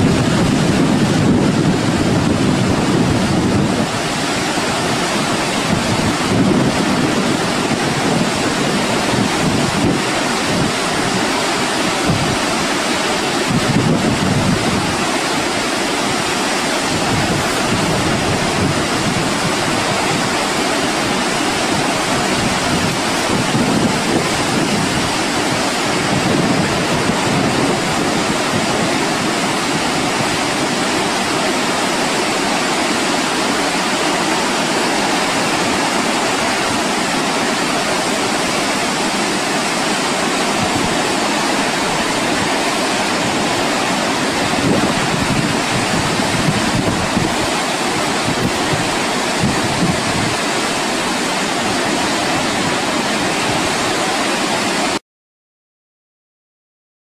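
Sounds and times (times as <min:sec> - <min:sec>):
wind buffeting microphone: 0:00.0 - 0:32.3, 0:33.9 - 0:54.9
waterfall rushing: 0:00.0 - 0:55.0.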